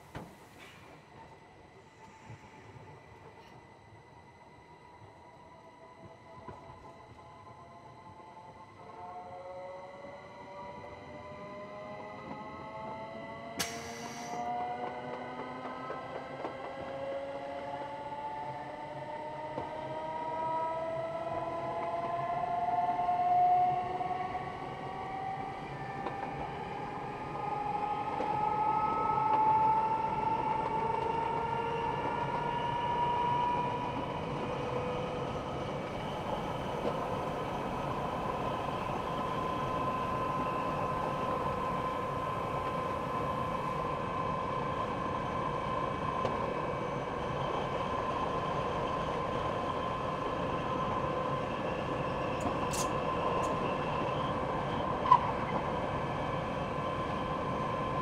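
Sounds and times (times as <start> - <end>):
rumble of wheels on rail: 0.0 - 58.0.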